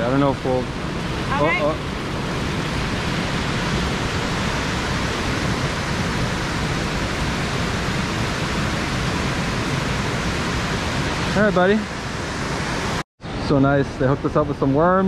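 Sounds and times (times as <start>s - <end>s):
water rushing over a dam: 0.0s - 15.0s.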